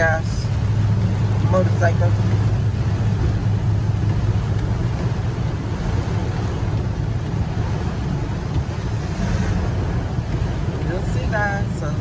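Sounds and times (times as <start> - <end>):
engine and tyres on wet road: 0.0 - 12.0
rain hissing on car: 0.0 - 12.0.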